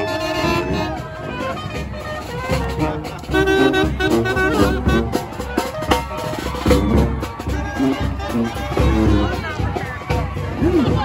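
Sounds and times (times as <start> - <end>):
saxophone melody: 0.0 - 9.4
brass band playing jazz: 0.0 - 11.0
drums: 0.0 - 11.0.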